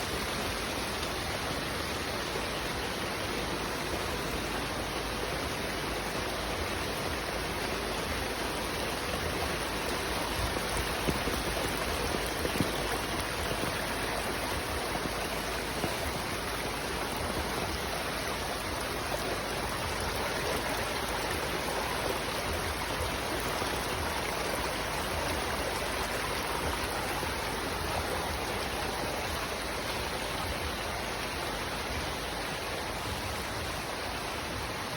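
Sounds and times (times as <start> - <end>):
floodwater rushing: 0.0 - 34.9.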